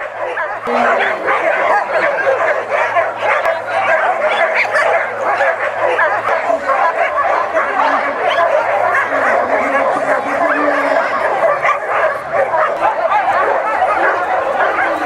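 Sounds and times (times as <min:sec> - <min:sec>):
many dogs barking and yelping: 0:00.0 - 0:15.0.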